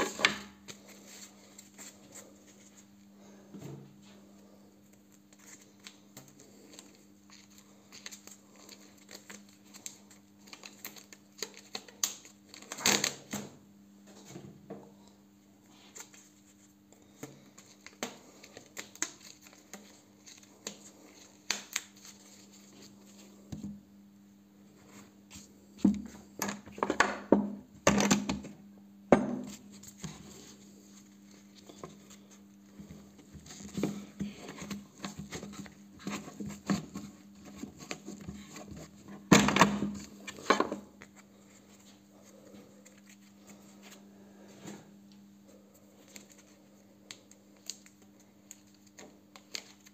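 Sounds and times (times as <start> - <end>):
rustling and crinkling of wraps: 0.0 - 13.3, 15.6 - 23.8, 29.5 - 49.9.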